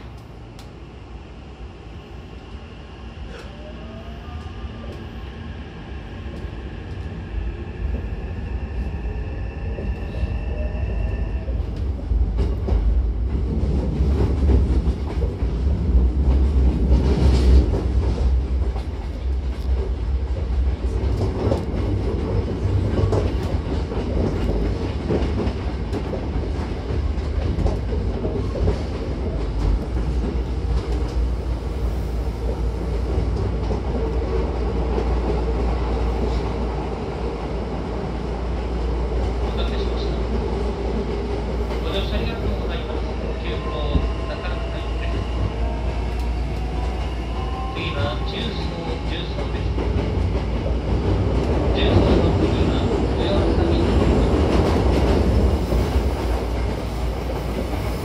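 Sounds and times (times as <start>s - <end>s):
train wheels rumbling: 4.3s - 58.0s.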